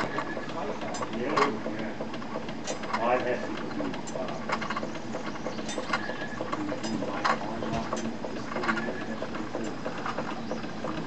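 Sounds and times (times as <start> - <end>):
small clicks and rattles: 0.0 - 11.0
toy steam engine whirring: 0.0 - 11.0.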